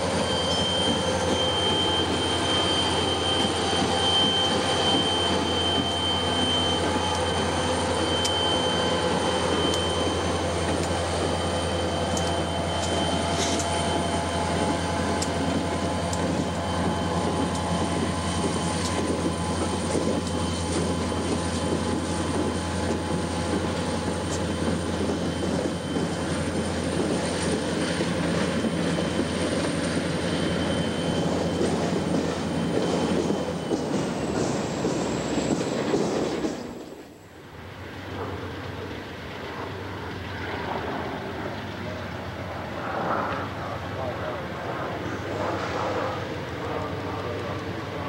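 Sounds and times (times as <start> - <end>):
diesel locomotive engines droning: 0.0 - 48.0
rumbling wheel and rail noise: 0.0 - 48.0.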